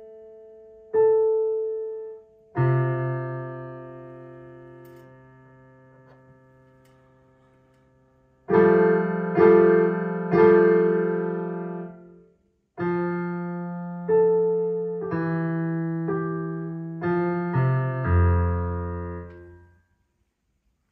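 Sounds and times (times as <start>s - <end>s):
digital piano melody: 0.0s - 12.2s, 12.8s - 19.8s.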